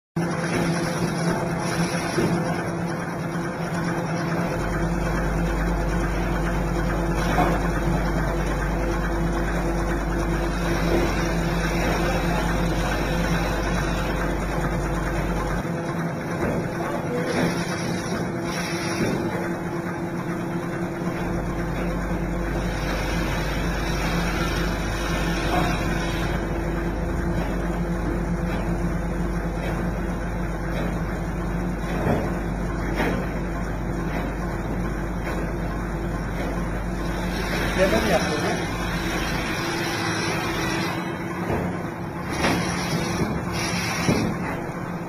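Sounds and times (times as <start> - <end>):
log saw machine humming: 0.2 - 45.0.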